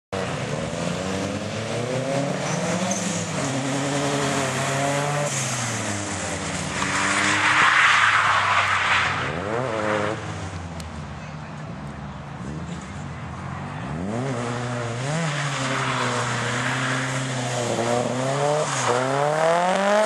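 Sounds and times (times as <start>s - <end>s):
car engine revving: 0.2s - 10.6s, 13.7s - 20.0s.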